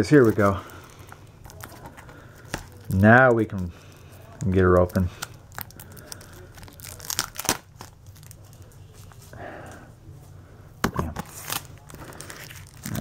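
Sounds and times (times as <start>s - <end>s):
shrink wrap crinkling and tearing: 0.0s - 3.3s, 3.9s - 9.2s, 11.2s - 13.0s.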